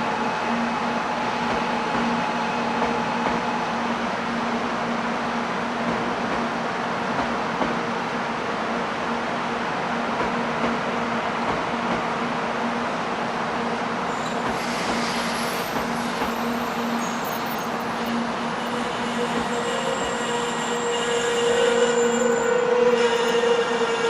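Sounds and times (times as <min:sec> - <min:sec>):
train electrical hum and whine: 0:00.0 - 0:24.0.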